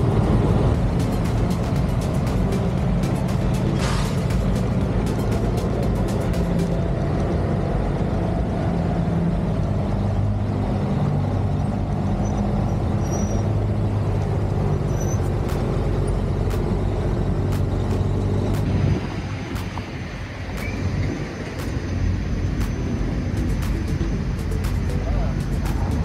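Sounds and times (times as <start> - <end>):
vehicle engines droning: 0.0 - 26.0.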